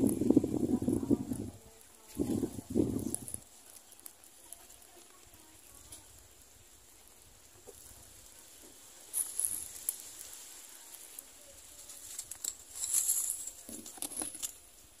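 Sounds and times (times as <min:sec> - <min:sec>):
nestlings hissing and crackling: 0:00.0 - 0:15.0.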